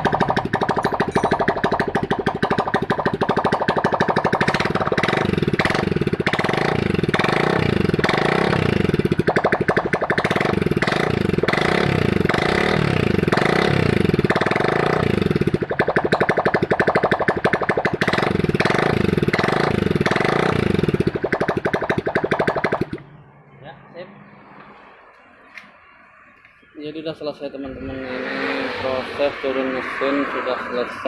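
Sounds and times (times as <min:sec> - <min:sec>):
motorcycle engine revving: 0:00.0 - 0:23.0, 0:27.6 - 0:31.0.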